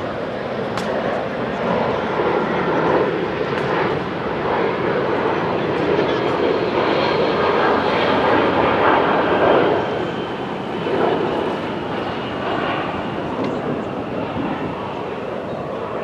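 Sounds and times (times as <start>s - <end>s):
aircraft passing overhead: 0.0s - 16.0s.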